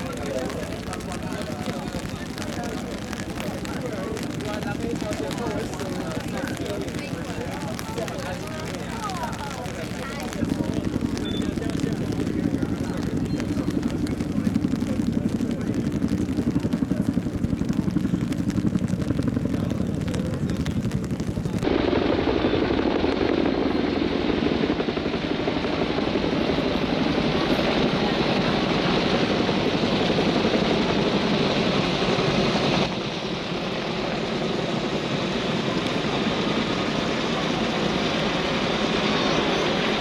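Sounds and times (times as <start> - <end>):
helicopters flying overhead: 0.0 - 40.0.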